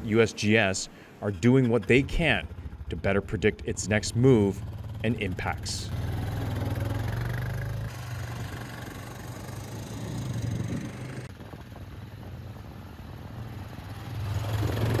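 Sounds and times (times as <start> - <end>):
atv engine running: 1.2 - 15.0.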